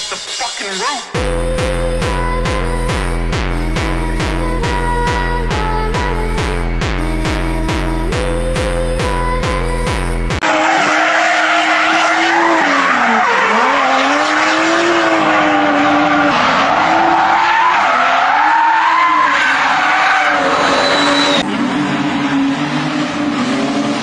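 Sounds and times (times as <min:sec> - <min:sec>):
car engine revving: 0:01.2 - 0:24.0.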